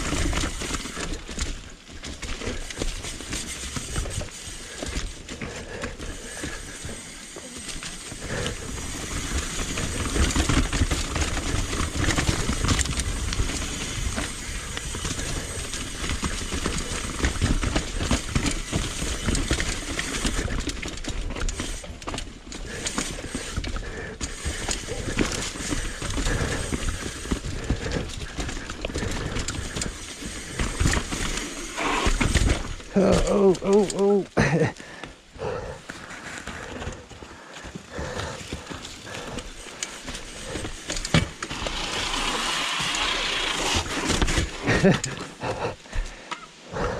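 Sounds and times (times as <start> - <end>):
bike frame and chain rattling: 0.0 - 46.4.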